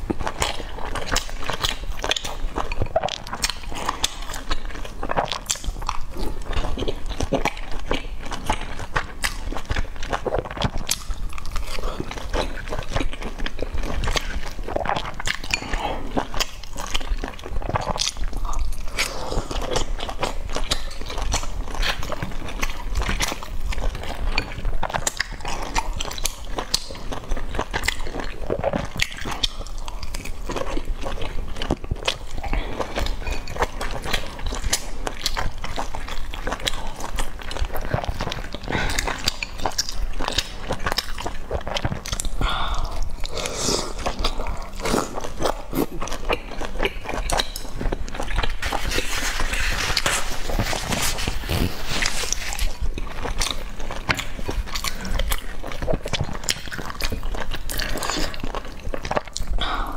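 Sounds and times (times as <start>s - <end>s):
wet chewing and slurping: 0.0s - 59.9s.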